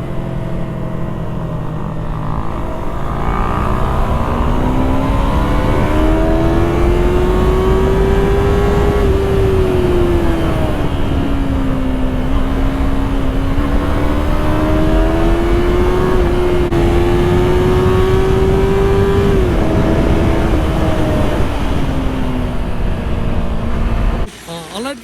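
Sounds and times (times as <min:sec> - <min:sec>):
wind rumbling over microphone: 0:01.4 - 0:24.3.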